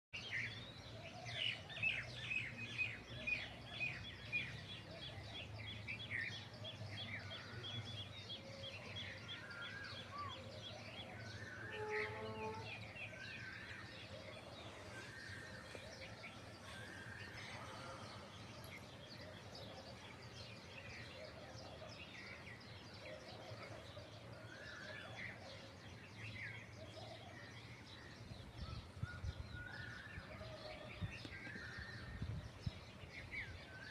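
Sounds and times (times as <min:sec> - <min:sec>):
birds chirping and calling: 0:00.2 - 0:33.9.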